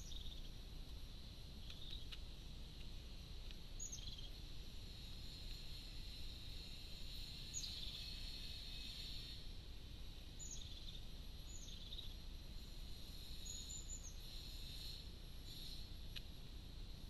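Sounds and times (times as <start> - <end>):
small birds chirping: 0.0 - 9.4, 10.2 - 16.2
steady high hiss: 0.0 - 17.0.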